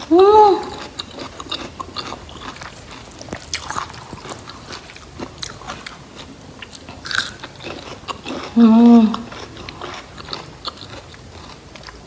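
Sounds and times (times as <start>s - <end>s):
person chewing with crunches: 0.0s - 12.0s.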